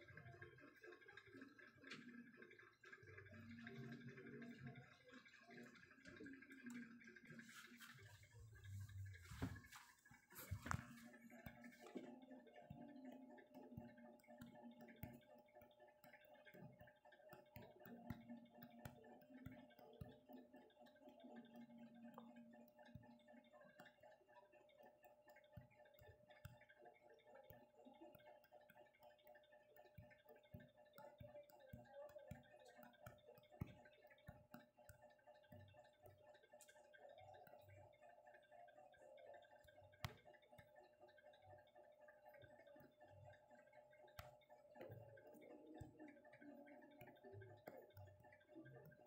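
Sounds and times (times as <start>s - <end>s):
faint ticks and clicks: 0.0s - 49.0s.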